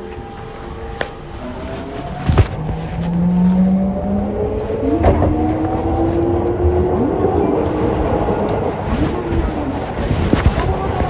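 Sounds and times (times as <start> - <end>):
electric train motors whining: 0.0 - 11.0
running gear rumble: 0.0 - 11.0.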